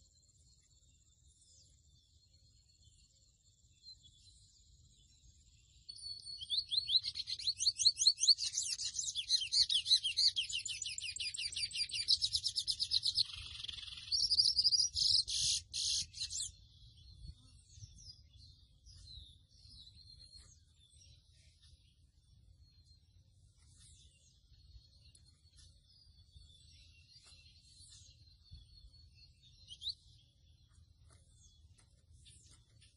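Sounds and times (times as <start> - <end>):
bird twittering song: 0.0 - 32.9
faint bird chirps: 0.0 - 32.9.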